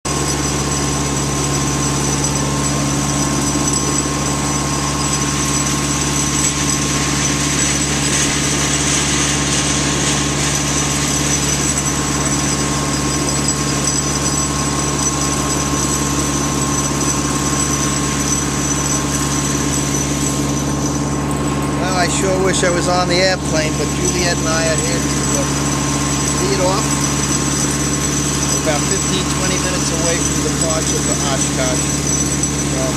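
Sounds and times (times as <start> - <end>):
generator running: 0.0 - 32.9.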